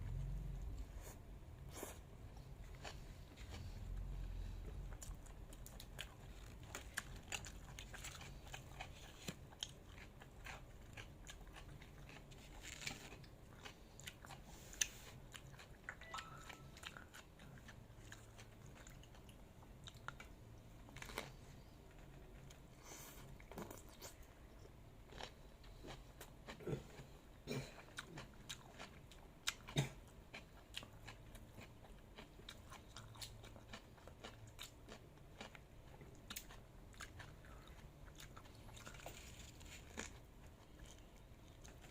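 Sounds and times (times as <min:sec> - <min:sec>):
person chewing crunchy food: 0:01.7 - 0:41.9.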